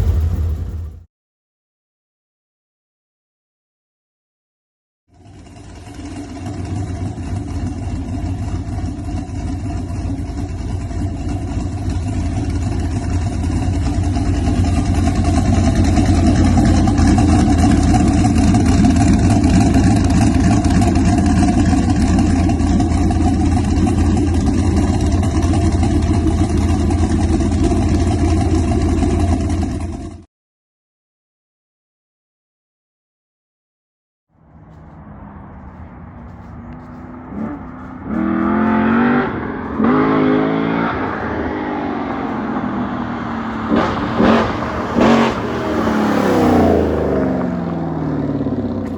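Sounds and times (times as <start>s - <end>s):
car engine with loud exhaust: 5.1s - 30.3s, 34.3s - 48.9s.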